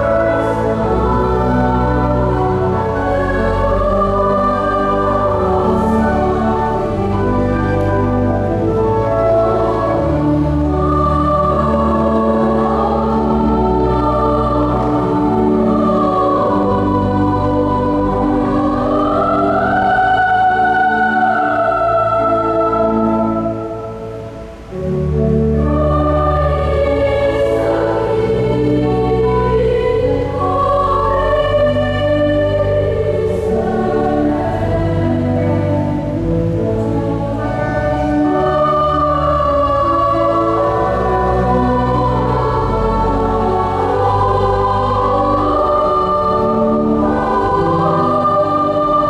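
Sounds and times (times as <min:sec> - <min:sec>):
choir singing: 0:00.0 - 0:49.0
pipe organ chords: 0:00.0 - 0:49.0.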